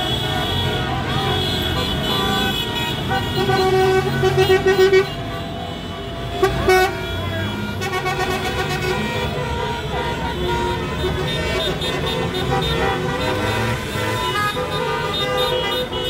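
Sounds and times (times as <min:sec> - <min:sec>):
car horns honking: 0:00.0 - 0:16.0
traffic noise: 0:00.0 - 0:16.0.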